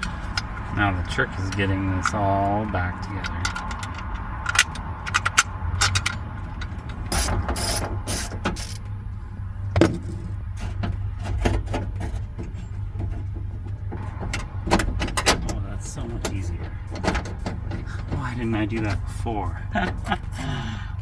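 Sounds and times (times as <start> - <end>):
metallic clicks and knocks: 0.0 - 9.0, 9.8 - 19.1.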